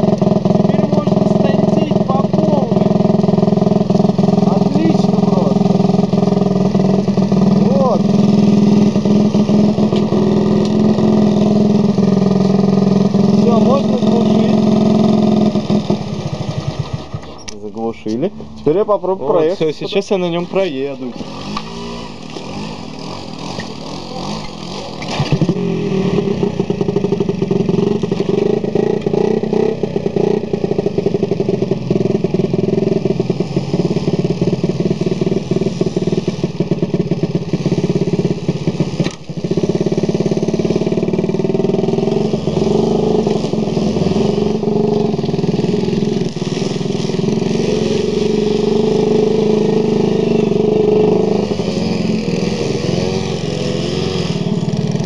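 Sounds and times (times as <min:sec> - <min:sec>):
moped engine revving: 0:00.0 - 0:55.0.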